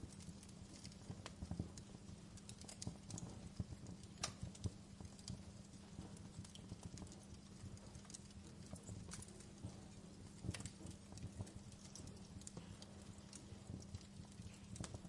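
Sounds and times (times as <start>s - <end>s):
low rumble of burning: 0.0s - 15.0s
wood fire popping and snapping: 0.0s - 15.0s.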